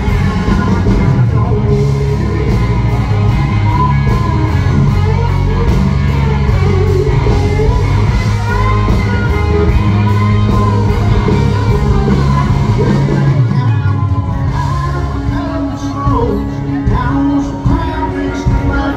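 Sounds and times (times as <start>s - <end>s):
live country band playing: 0.0s - 18.9s
person singing: 0.0s - 18.9s.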